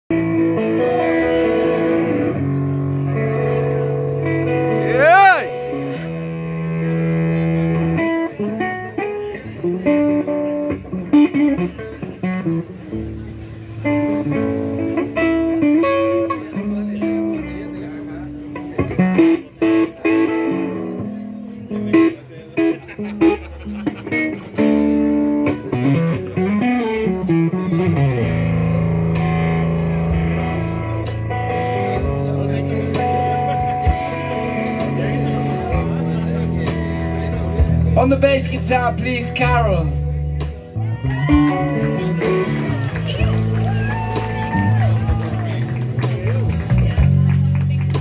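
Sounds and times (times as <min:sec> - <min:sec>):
electric guitar playing: 0:00.1 - 0:48.0.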